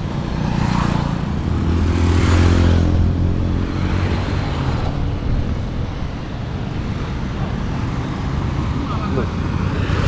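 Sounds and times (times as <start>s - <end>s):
steady traffic noise: 0.0s - 10.0s
vehicle passing close by: 0.0s - 10.0s.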